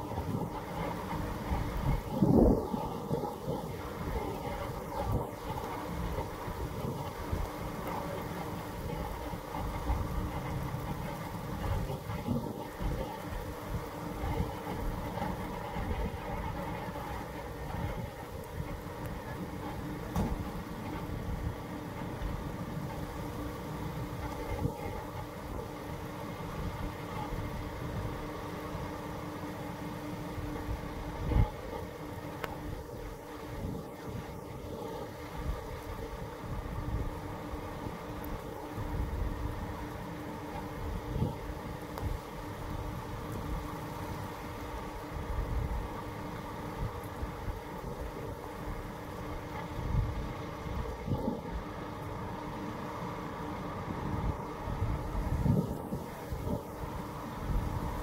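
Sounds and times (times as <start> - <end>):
wind on microphone: 0.0 - 23.5, 24.1 - 28.6, 30.4 - 51.8, 53.8 - 58.0
fire engine idling: 0.0 - 58.0.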